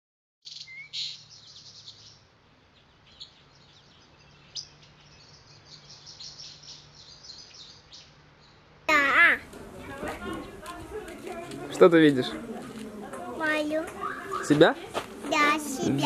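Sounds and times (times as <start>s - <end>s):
songbirds chirping: 0.5s - 16.0s.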